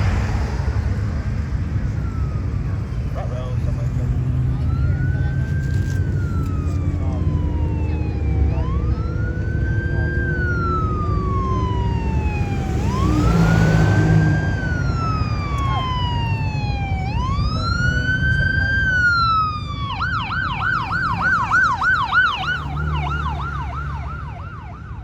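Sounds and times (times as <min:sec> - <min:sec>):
emergency siren wailing: 0:00.0 - 0:25.0
traffic rumble: 0:00.0 - 0:25.0
vehicle passing: 0:00.0 - 0:25.0.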